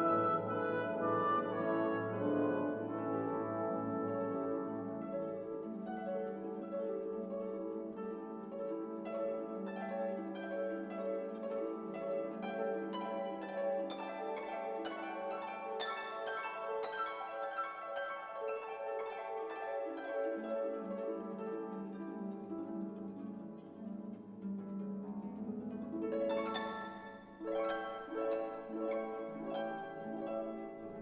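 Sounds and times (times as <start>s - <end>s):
plucked harp-like notes: 0.0s - 31.0s.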